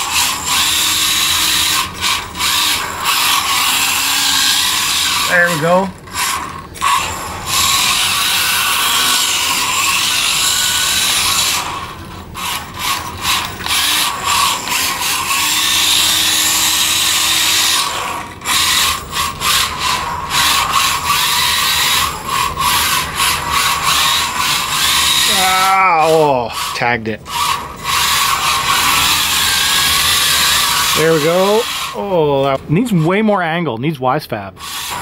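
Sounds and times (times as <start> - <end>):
toy car motor whining: 0.0 - 33.4, 34.6 - 35.0.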